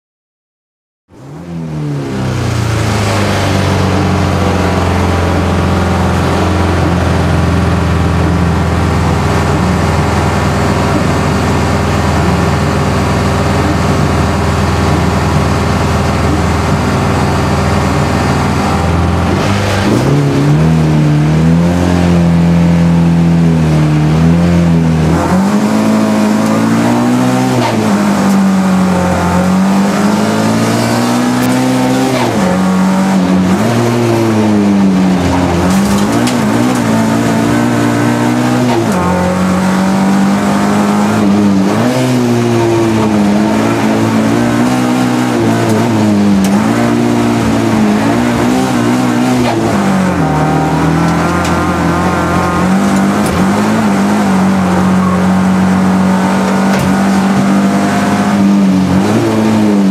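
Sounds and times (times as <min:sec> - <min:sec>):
race car engine revving: 0:01.1 - 0:59.9.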